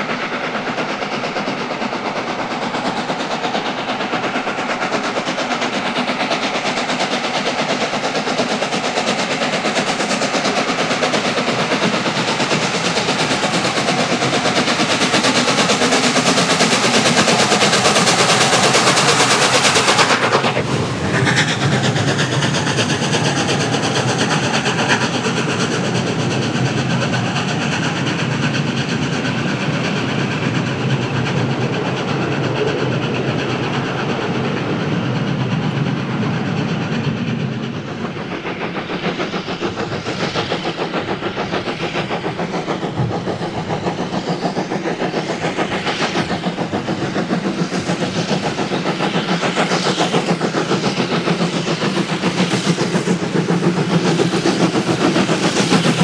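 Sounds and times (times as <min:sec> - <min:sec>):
steam train running on rails: 0:00.0 - 0:56.0.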